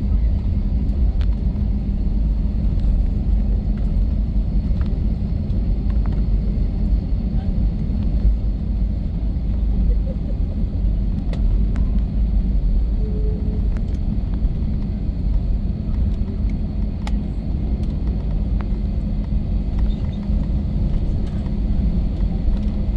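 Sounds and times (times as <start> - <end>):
jet engines rumbling: 0.0 - 22.9.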